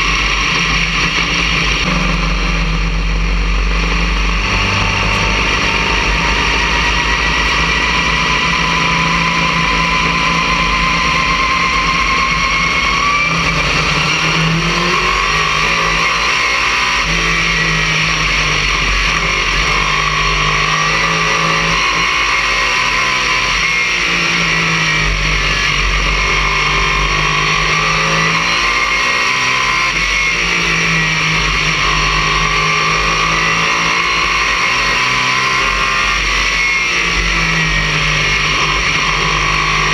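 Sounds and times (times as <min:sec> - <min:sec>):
high whine: 0:00.0 - 0:39.9
race car engine: 0:00.0 - 0:39.9
wind and road noise: 0:00.0 - 0:39.9.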